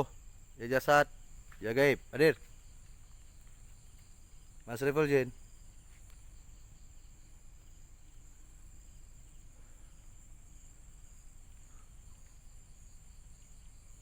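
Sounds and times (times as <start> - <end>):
crickets chirring: 0.0 - 14.0
faint pulsing chirp: 0.0 - 14.0.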